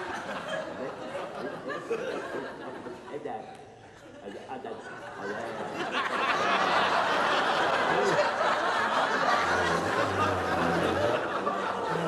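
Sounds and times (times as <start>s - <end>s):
audience laughing: 0.0s - 3.2s, 4.2s - 12.0s.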